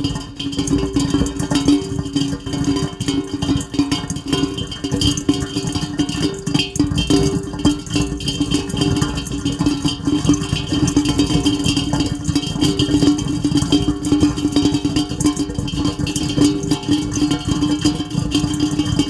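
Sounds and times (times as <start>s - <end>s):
rain pattering: 0.0s - 18.7s.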